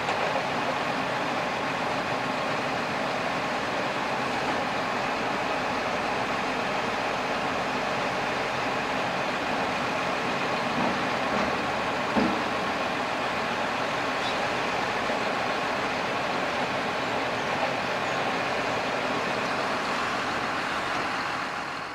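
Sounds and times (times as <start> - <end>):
wood chipper running: 0.0 - 21.9.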